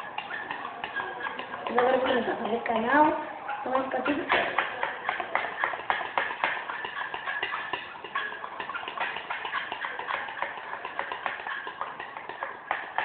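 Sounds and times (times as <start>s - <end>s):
utensil clicking against a pot: 0.0s - 13.0s.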